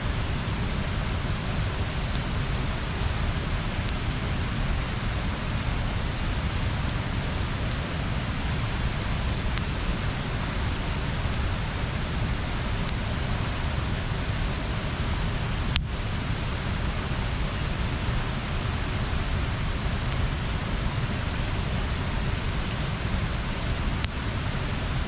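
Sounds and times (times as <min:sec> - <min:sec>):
bonfire rushing hiss: 0:00.0 - 0:25.0
wood crackles and pops: 0:00.3 - 0:16.0, 0:18.5 - 0:24.2.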